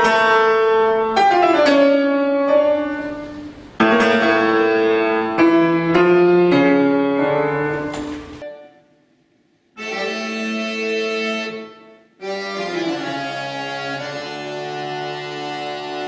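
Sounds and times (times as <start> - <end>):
slow keyboard melody: 0.0 - 9.1, 9.8 - 16.0.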